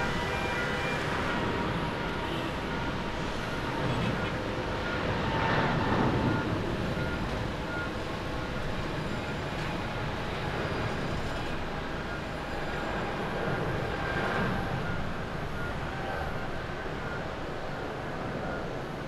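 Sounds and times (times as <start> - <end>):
jet engines on takeoff roll: 0.0 - 19.0.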